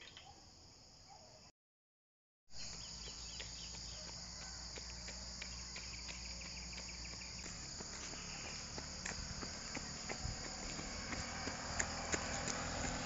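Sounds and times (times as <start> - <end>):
high-pitched insect chorus: 2.6 - 13.0.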